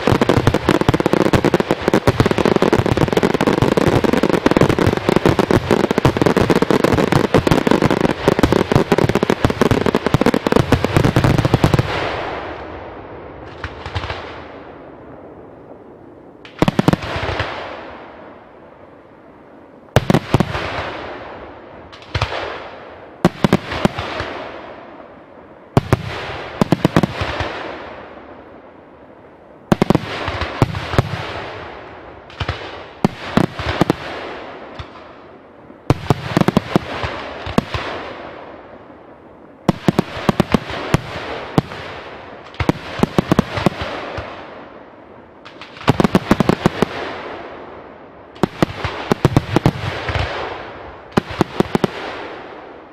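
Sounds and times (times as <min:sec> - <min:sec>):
fireworks bursting with sharp bangs: 0:00.0 - 0:18.5, 0:19.8 - 0:28.9, 0:29.6 - 0:52.9.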